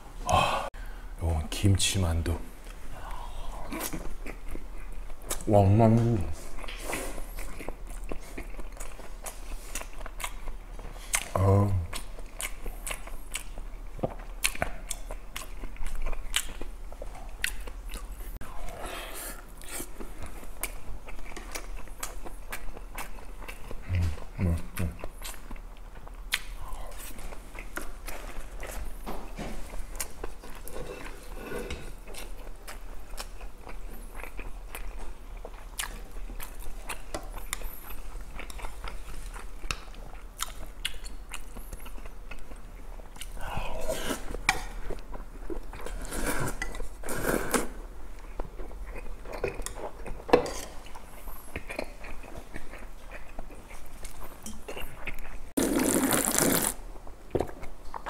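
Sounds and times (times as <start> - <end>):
man chewing dumplings and noodles: 2.6 - 58.0.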